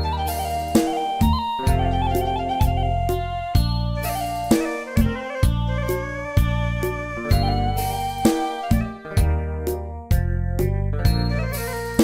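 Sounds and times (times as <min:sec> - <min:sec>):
synthesized flute melody: 0:00.0 - 0:09.9, 0:11.0 - 0:12.0.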